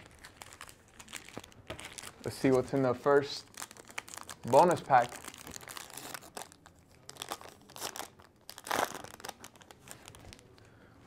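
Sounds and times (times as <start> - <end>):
wrapper crinkling and tearing: 0.0 - 2.6, 3.3 - 10.6.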